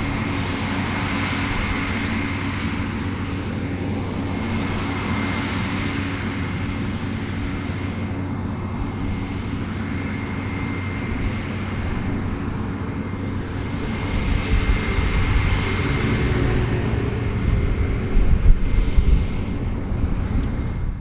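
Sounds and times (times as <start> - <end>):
combine harvester engine drone: 0.0 - 21.0
high whine: 0.0 - 21.0.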